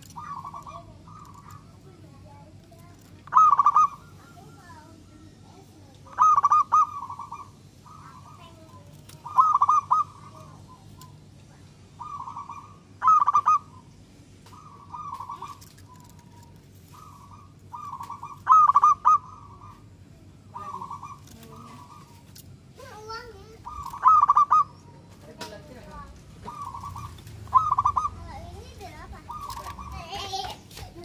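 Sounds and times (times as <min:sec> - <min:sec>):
dove cooing: 0:00.0 - 0:02.2, 0:02.8 - 0:11.3, 0:11.9 - 0:30.5.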